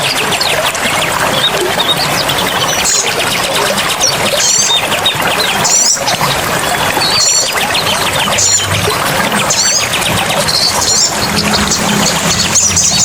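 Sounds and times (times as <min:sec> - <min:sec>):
running water: 0:00.0 - 0:13.0
rapid ticking bird trill: 0:01.3 - 0:13.0.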